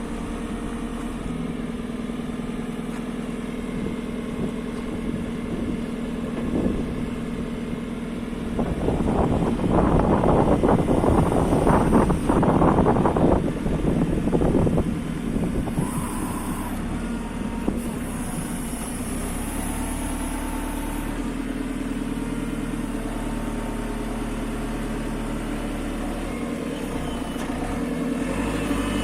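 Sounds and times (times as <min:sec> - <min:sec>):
diesel engine idling: 0:00.0 - 0:28.4.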